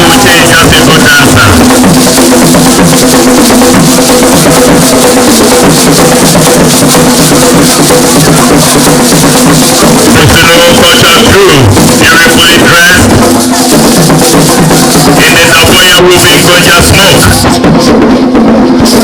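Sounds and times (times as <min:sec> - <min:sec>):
drum-led dance music: 0:00.0 - 0:19.0.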